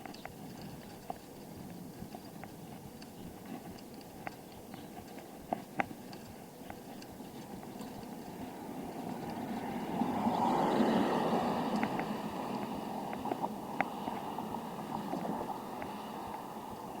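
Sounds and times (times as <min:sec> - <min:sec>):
bicycle clicks and rattles: 0:00.0 - 0:14.2
bicycle rolling noise: 0:00.0 - 0:17.0.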